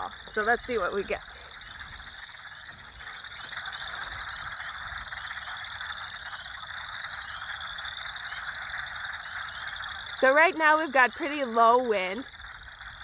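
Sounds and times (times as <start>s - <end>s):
frogs trilling: 0.0s - 13.0s
high rising frog calls: 0.0s - 13.0s.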